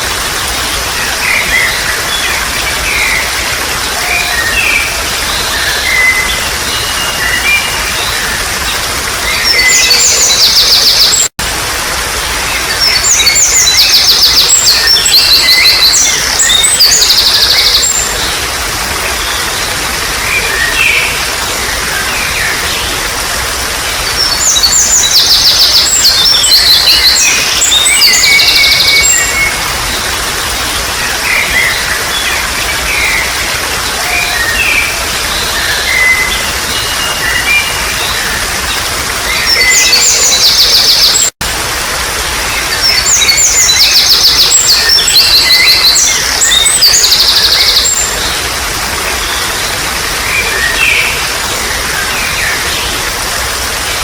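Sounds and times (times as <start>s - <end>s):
birds chirping and whistling: 0.0s - 11.3s, 12.5s - 18.4s, 19.0s - 23.0s, 23.8s - 41.3s, 42.5s - 53.0s
trickling water: 0.0s - 54.0s.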